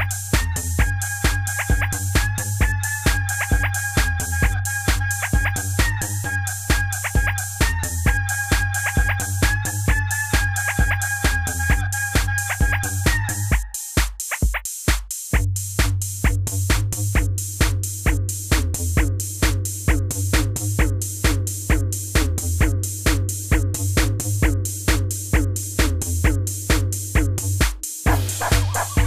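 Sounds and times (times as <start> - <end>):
electronic music with fast beat: 0.0 - 29.0.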